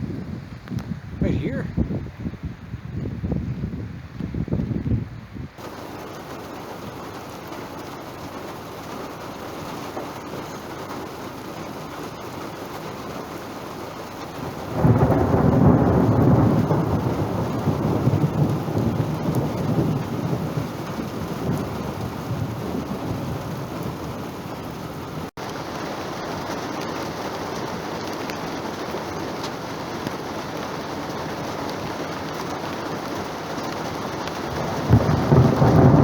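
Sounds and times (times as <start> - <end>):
steady rain: 0.0 - 36.0
thunder rolling: 5.6 - 36.0.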